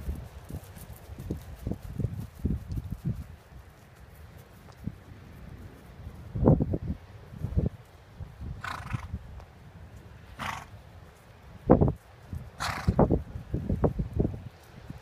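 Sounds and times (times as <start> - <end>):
horse hoofbeats on grass: 0.0 - 15.0.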